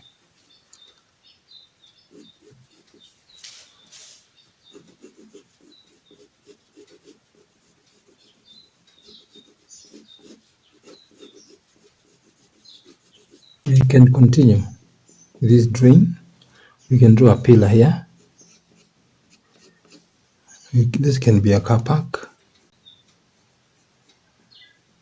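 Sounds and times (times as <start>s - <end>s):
pencil scratching on paper: 0.0s - 0.7s, 2.0s - 16.0s, 17.0s - 24.2s.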